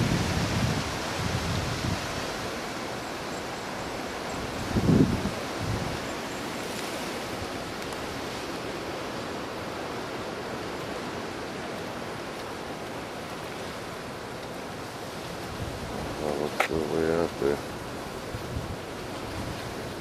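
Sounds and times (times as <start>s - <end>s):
hurricane wind rushing: 0.0s - 20.0s.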